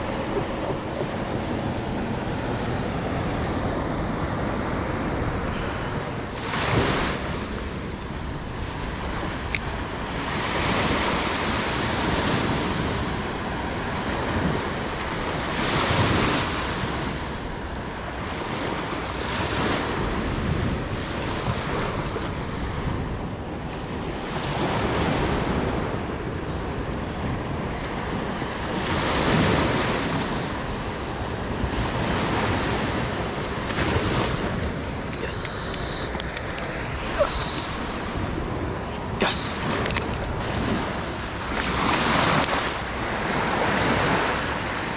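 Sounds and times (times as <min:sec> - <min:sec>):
small waves washing on sand: 0:00.0 - 0:44.9
wind buffeting microphone: 0:00.0 - 0:44.9.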